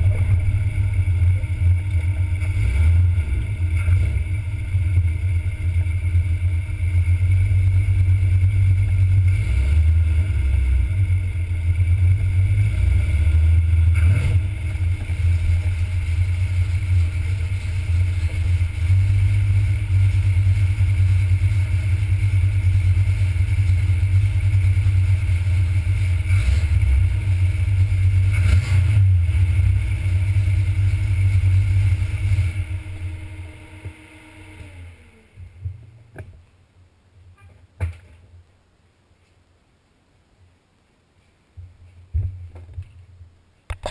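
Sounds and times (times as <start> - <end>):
car engine idling: 0.0 - 36.3.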